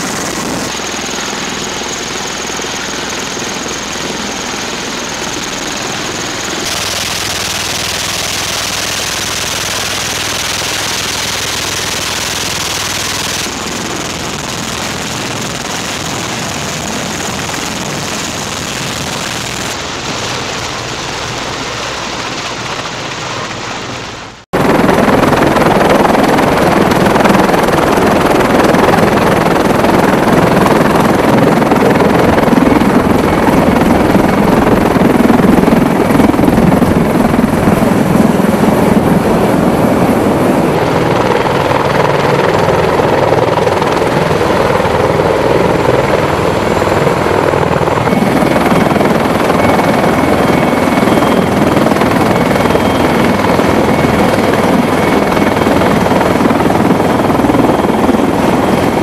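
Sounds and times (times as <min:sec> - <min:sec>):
helicopter turbine and rotor noise: 0:00.0 - 0:59.0.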